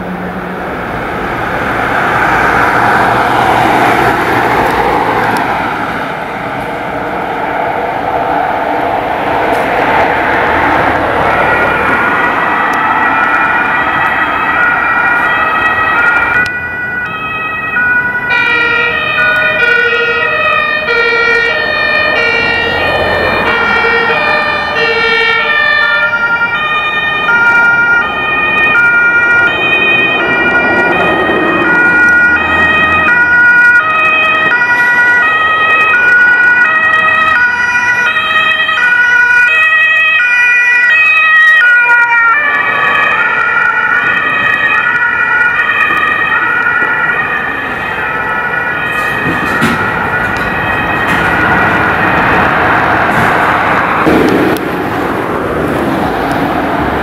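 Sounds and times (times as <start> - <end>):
passing traffic rumble: 0.0 - 57.0
two-tone emergency sirens: 0.0 - 57.0.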